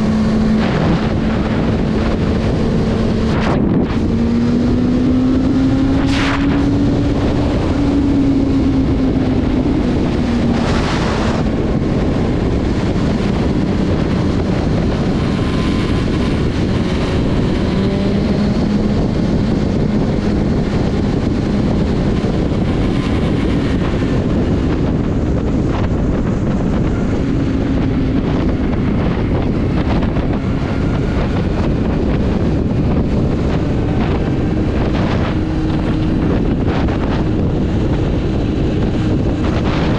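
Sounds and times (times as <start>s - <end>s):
motorcycle engine droning: 0.0s - 39.9s
wind rush on microphone: 0.0s - 39.9s.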